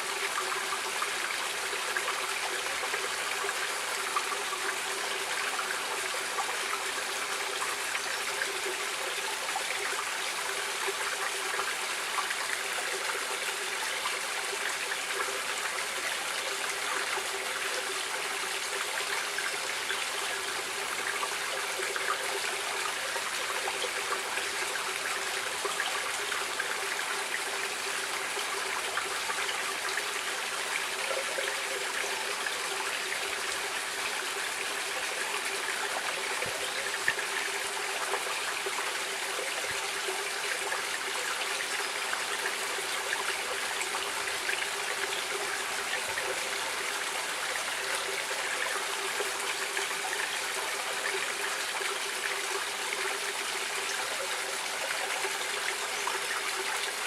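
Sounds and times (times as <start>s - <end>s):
stream water running over stones: 0.0s - 57.0s.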